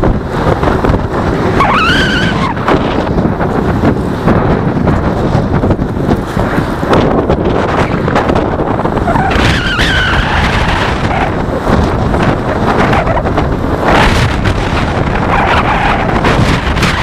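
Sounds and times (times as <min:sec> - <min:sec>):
road traffic passing: 0:00.0 - 0:17.0
wind buffeting microphone: 0:00.0 - 0:17.0.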